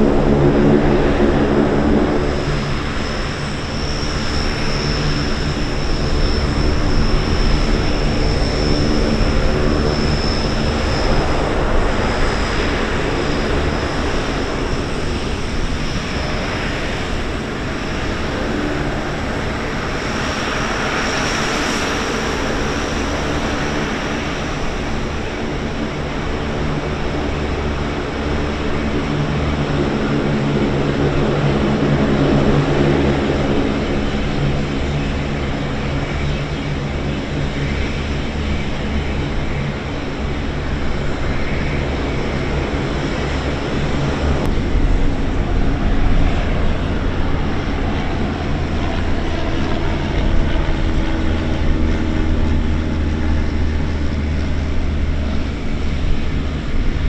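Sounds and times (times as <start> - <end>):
deeper engine sound: 0.0 - 57.0
turboprop engines droning: 0.0 - 57.0.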